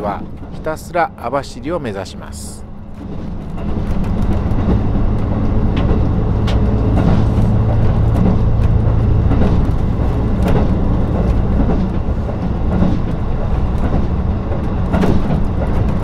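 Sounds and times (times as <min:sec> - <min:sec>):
diesel engine humming: 0:00.0 - 0:16.0
train rail running noise: 0:00.0 - 0:16.0
wheels clicking over rail joints: 0:00.0 - 0:16.0.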